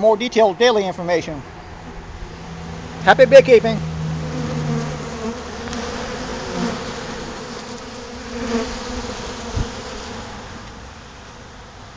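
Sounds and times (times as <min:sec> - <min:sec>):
bees buzzing: 0:01.4 - 0:11.6
bees passing close: 0:01.5 - 0:11.7.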